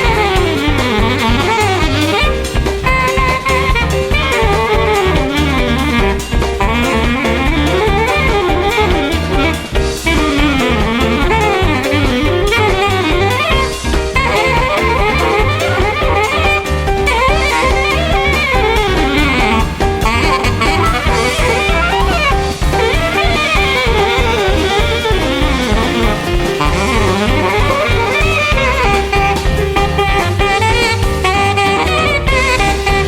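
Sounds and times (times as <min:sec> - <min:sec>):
bass: 0:00.0 - 0:33.0
drums: 0:00.0 - 0:33.0
soprano saxophone runs: 0:00.0 - 0:33.0.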